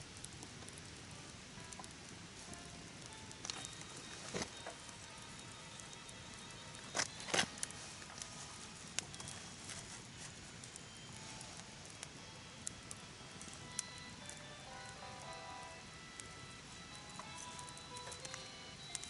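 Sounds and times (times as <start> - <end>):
low steady hiss: 0.0 - 19.0
wood fire crackling and popping: 0.0 - 19.0.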